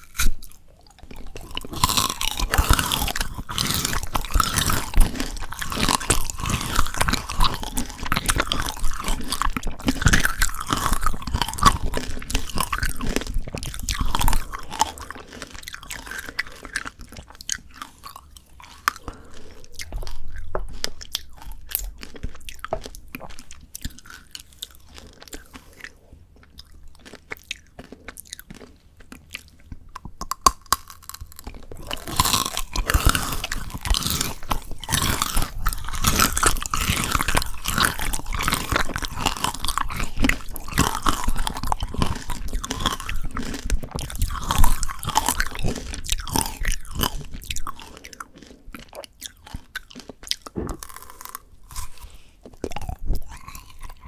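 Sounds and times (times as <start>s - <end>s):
chewing: 0.0s - 54.0s
crunching hard candy: 0.0s - 54.0s.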